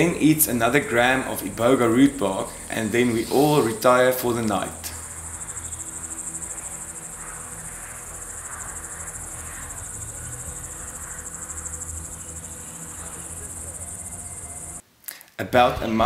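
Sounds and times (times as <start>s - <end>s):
crickets chirping: 0.0s - 14.8s
low background rumble: 0.0s - 14.8s.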